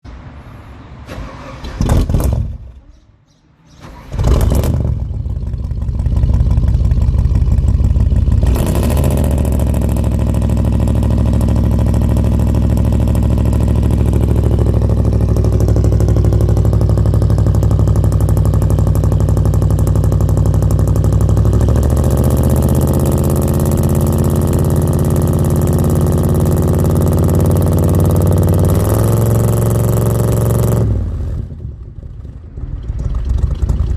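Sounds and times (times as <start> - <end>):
van engine exhaust idling: 4.2 - 33.9.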